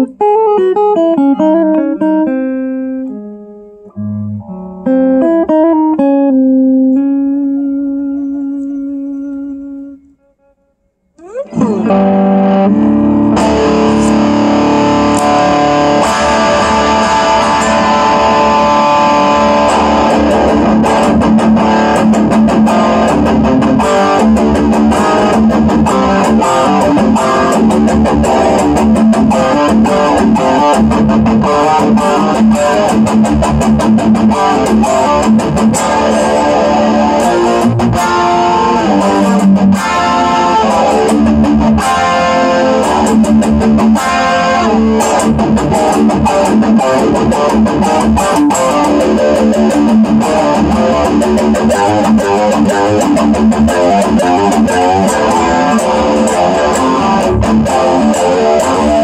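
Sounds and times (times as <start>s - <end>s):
electric guitar fast picked notes: 0.0s - 59.0s.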